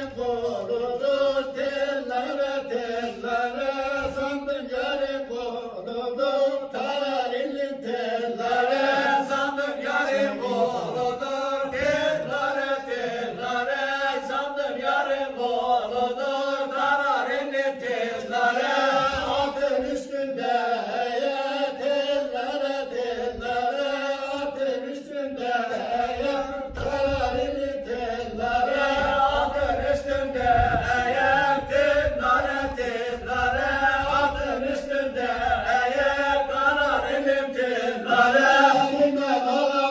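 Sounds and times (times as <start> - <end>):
men singing in unison: 0.0 - 39.9.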